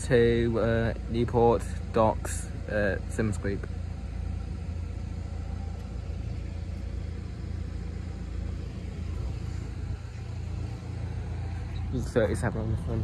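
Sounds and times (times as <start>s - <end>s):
faint steady hum: 0.0s - 13.0s
low engine rumble: 0.0s - 13.0s.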